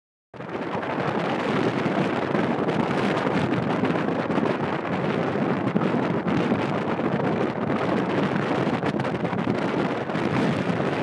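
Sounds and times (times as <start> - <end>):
wind buffeting microphone: 0.4 - 11.0.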